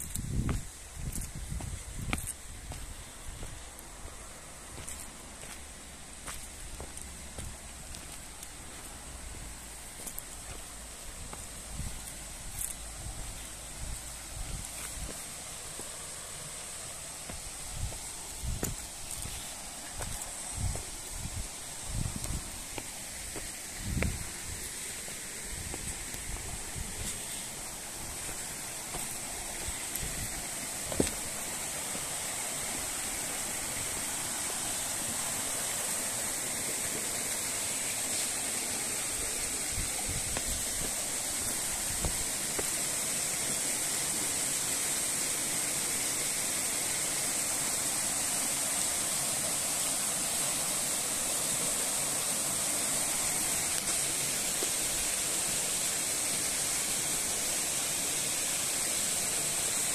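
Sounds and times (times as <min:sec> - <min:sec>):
stream rushing among boulders: 0:00.0 - 0:59.9.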